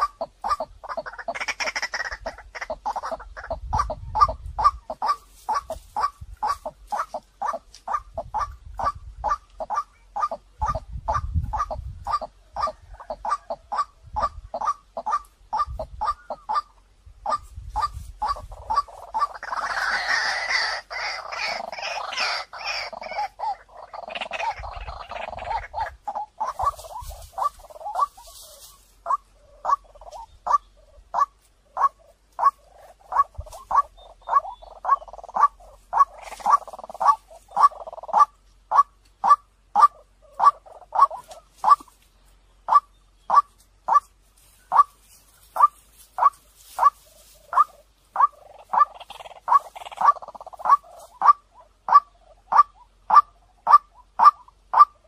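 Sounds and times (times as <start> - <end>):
waterhen calling kwak notes: 0.0 - 42.0, 42.6 - 55.0
harsh babbling bird chorus: 0.0 - 44.0, 44.6 - 52.9.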